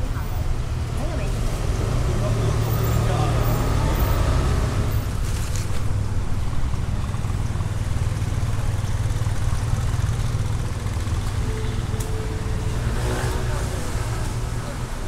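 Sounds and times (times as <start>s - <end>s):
vehicle engines in road traffic: 0.0s - 15.0s.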